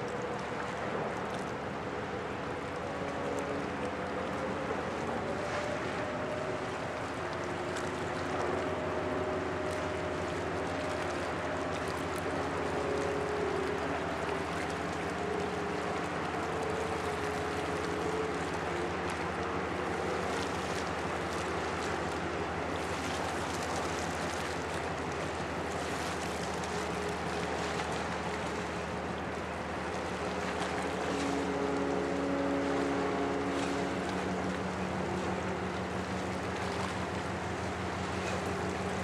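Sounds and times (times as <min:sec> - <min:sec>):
ship diesel drone: 0:00.0 - 0:39.0
wind and water noise: 0:00.0 - 0:39.0.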